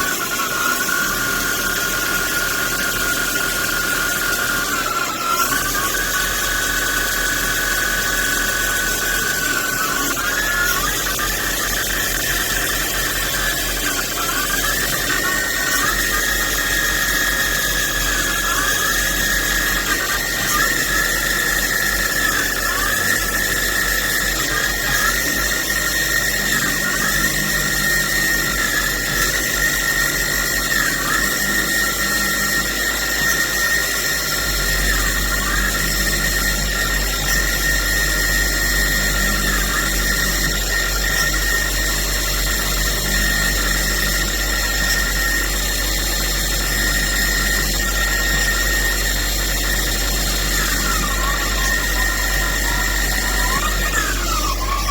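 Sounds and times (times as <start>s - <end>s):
lathe high-pitched whine: 0.0s - 54.9s.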